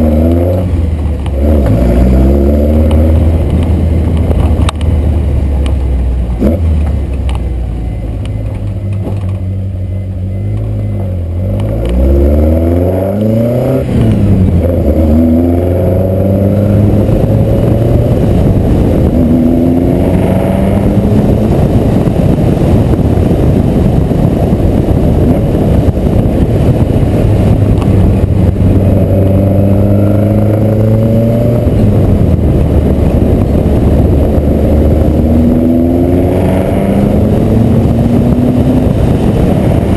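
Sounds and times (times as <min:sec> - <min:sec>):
race car engine revving: 0:00.0 - 0:07.4, 0:08.3 - 0:39.9.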